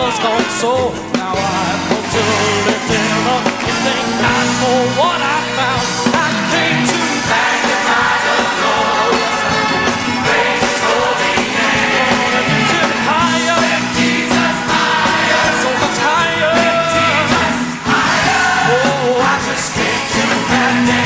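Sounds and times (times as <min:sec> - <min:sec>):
live band playing: 0:00.0 - 0:21.0
person singing gospel: 0:00.0 - 0:21.0.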